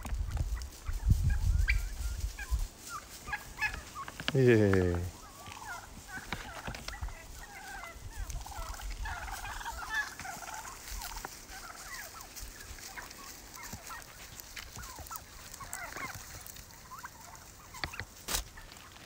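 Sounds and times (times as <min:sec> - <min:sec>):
young turkeys calling: 0:00.0 - 0:19.0.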